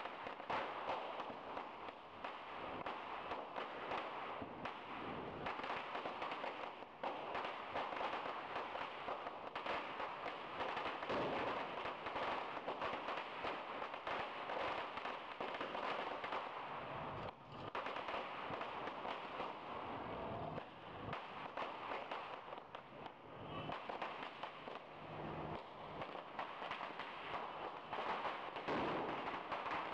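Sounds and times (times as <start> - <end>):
firecrackers crackling: 0.0 - 29.9.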